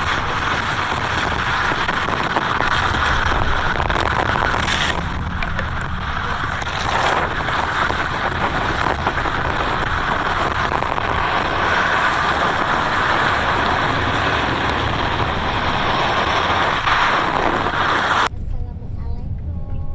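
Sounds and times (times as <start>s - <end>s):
faint clicks: 0.0s - 18.3s
skateboard wheels rolling on pavement: 0.0s - 18.3s.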